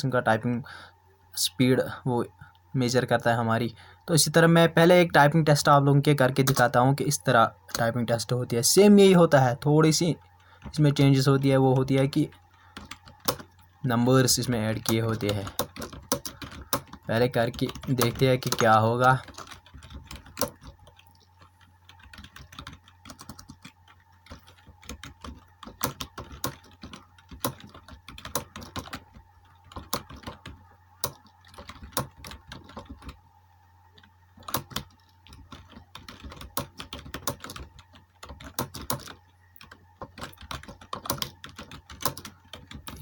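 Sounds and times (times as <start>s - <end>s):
faint low hum: 0.0s - 43.0s
fast keyboard typing: 4.1s - 33.2s, 33.8s - 43.0s.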